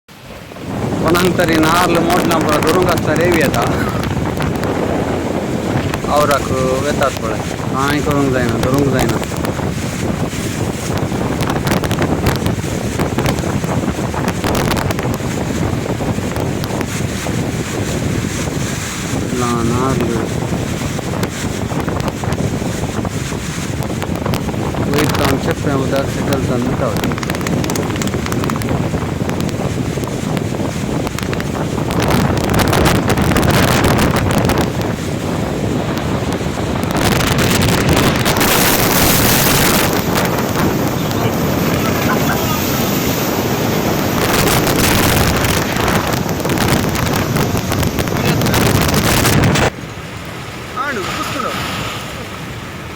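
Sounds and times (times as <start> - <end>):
rough sea surf: 0.1 - 52.9
wind buffeting microphone: 0.1 - 52.9.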